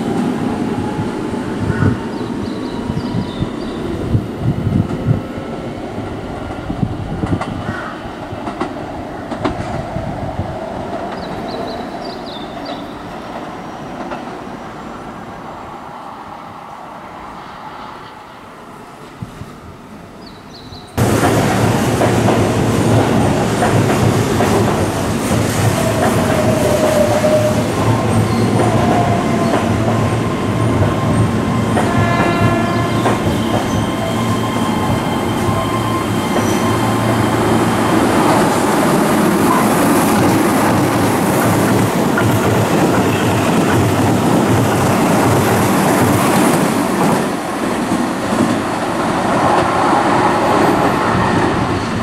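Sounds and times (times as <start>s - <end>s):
train wheels rumbling and clattering: 0.0s - 14.6s, 21.0s - 52.0s.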